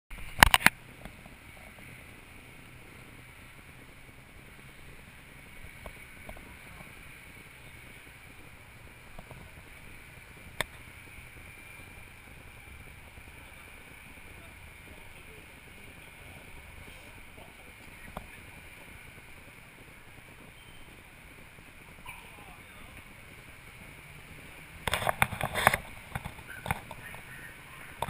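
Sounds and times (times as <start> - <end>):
outdoor background noise: 0.1 - 28.0.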